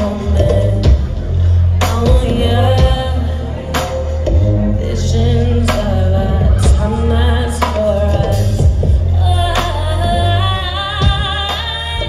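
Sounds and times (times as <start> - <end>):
beat with heavy bass: 0.0 - 12.0
woman singing into a microphone: 0.0 - 12.0.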